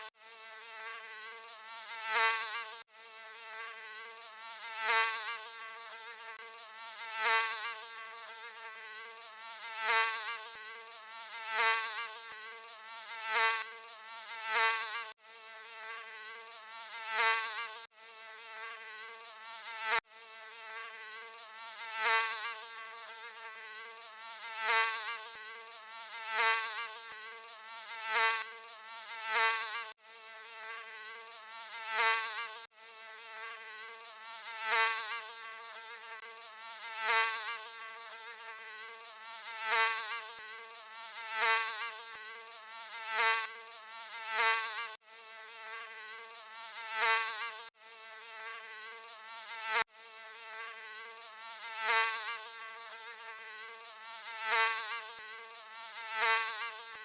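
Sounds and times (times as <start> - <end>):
mosquito buzzing: 0.0 - 57.0.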